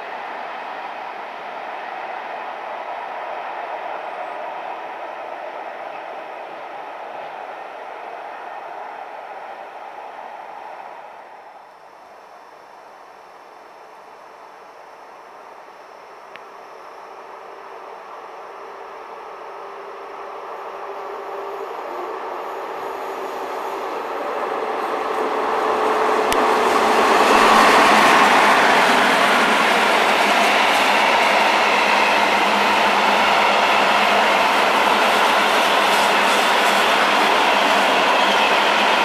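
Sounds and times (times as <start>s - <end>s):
electric locomotives passing: 0.0s - 39.0s.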